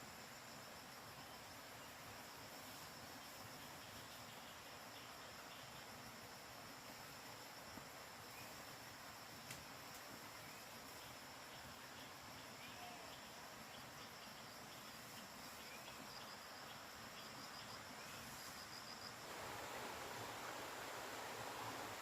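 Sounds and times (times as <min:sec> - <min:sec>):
low hiss: 0:00.0 - 0:22.0
steady rushing hiss: 0:00.0 - 0:22.0.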